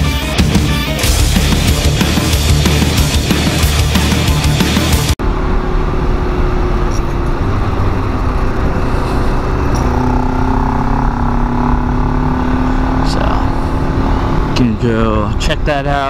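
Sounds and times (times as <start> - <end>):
motorcycle engine running: 1.0 - 14.6.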